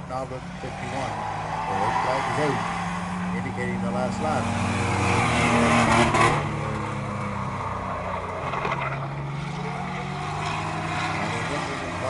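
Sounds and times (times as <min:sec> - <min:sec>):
race truck engines: 0:00.0 - 0:12.0.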